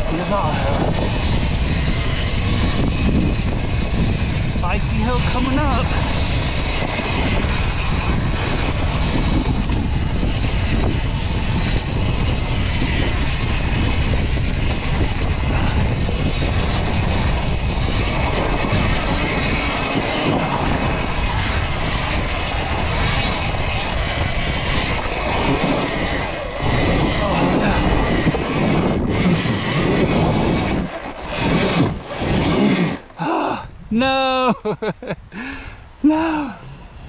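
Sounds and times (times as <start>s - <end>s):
loud wind rush: 0.0s - 37.0s
tyre noise on trail: 0.0s - 37.0s.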